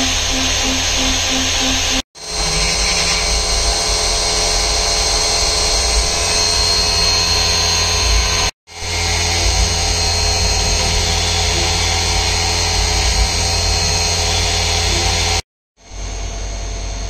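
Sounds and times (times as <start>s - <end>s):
low machine hum: 0.0s - 17.0s
milling spindle whine: 0.0s - 17.0s.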